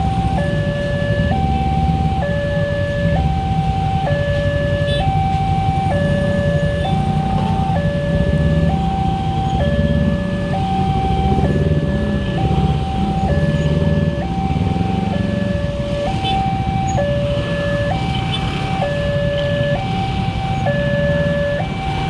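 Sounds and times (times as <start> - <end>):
two-tone level-crossing alarm: 0.0 - 22.0
vehicle engines rumbling: 0.0 - 22.0.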